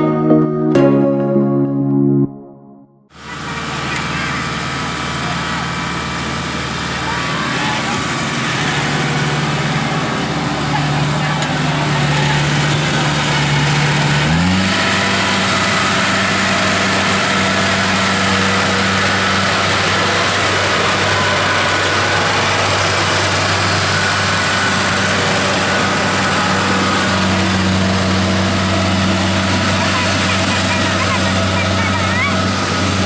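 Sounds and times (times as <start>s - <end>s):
combine harvester diesel engine: 3.1s - 33.0s.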